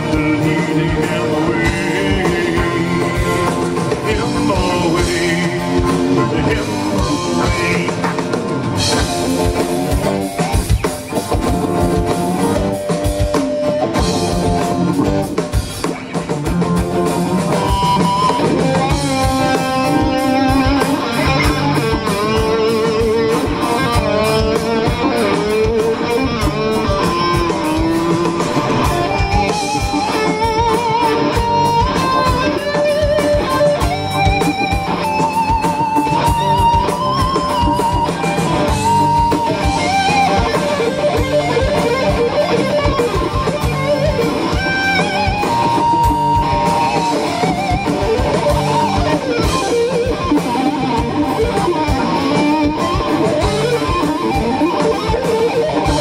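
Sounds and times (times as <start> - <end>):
bass guitar: 0.0 - 56.0
drum kit: 0.0 - 56.0
strummed rhythm guitars: 0.0 - 56.0
wavering lead guitar: 0.0 - 56.0.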